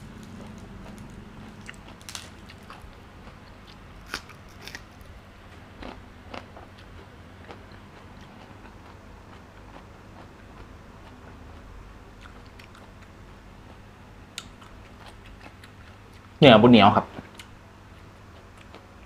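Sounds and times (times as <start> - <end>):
person chewing: 0.2 - 5.2, 5.8 - 13.8, 14.4 - 16.3, 18.3 - 18.9.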